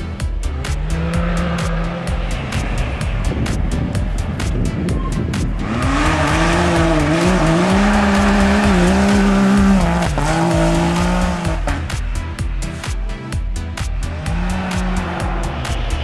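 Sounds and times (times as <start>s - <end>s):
music beat: 0.0s - 16.0s
car engine revving hard: 0.9s - 12.0s, 14.1s - 16.0s.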